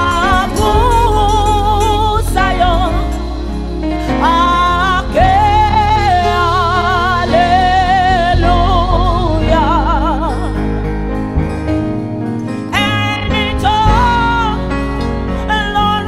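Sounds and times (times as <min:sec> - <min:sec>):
woman singing with vibrato: 0:00.0 - 0:10.6, 0:12.7 - 0:14.7, 0:15.5 - 0:16.0
keyboard and band accompaniment: 0:00.0 - 0:16.0.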